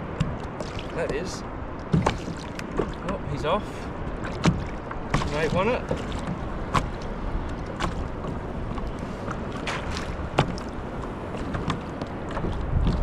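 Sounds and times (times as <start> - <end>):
water lapping against kayak hull: 0.0 - 13.0.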